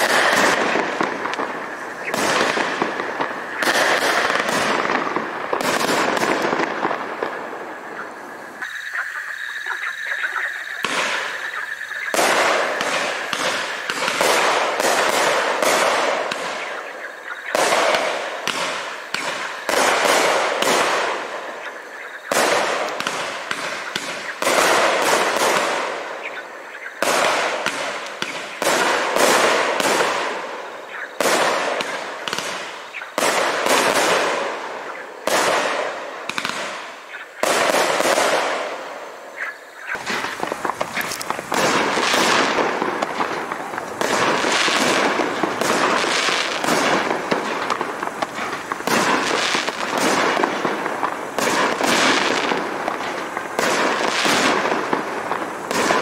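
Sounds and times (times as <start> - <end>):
firework cake bursts: 0.0 - 8.2, 10.8 - 26.4, 27.0 - 56.0.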